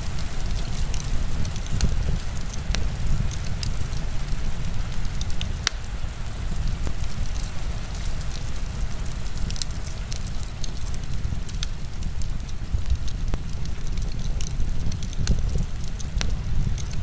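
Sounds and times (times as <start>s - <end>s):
heavy rain: 0.0s - 17.0s
wood fire crackling: 0.0s - 17.0s.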